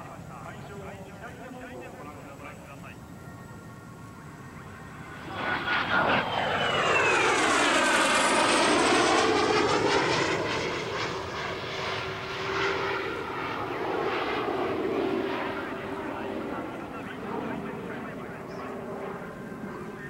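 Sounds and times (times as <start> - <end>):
jet engine passing with whine: 0.0 - 20.0.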